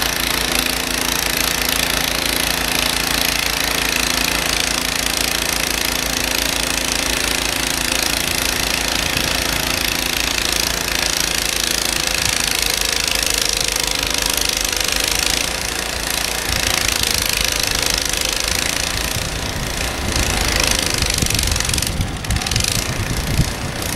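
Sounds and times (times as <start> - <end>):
snowblower engine running: 0.0 - 23.9.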